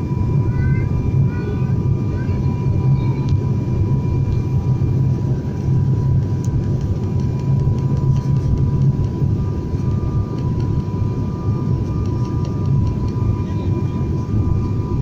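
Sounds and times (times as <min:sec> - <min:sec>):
airliner engine drone in cabin: 0:00.0 - 0:15.0.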